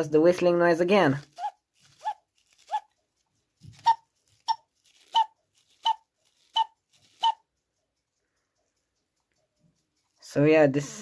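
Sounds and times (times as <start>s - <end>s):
cuckoo clock pipe tooting: 1.2s - 10.2s.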